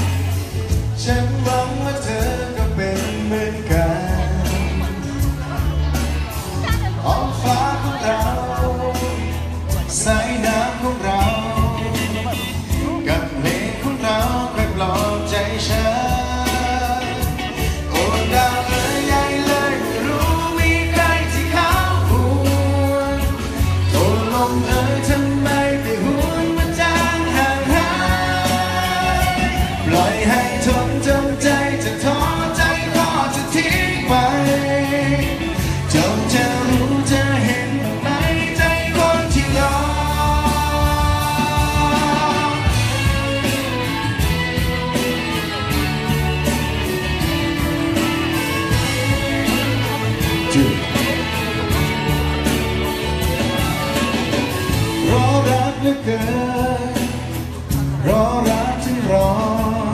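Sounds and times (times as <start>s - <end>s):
live band playing: 0.0s - 59.9s
man singing: 0.0s - 59.9s.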